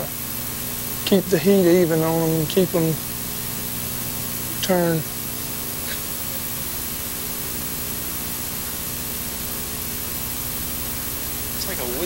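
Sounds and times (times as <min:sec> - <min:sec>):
faint steady hum: 0:00.0 - 0:12.0
tape hiss: 0:00.0 - 0:12.0.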